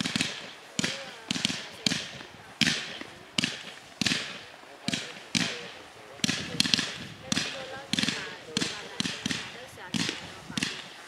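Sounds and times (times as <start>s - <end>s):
firework cake bangs: 0.0s - 11.0s.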